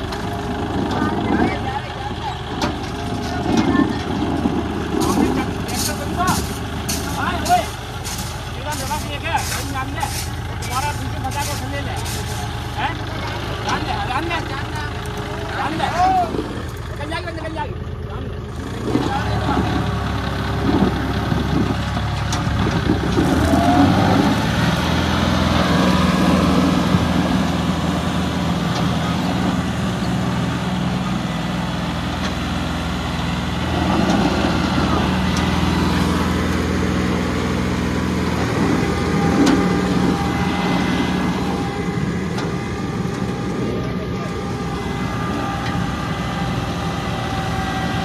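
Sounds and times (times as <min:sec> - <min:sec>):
tractor diesel engine straining: 0:00.0 - 0:48.0.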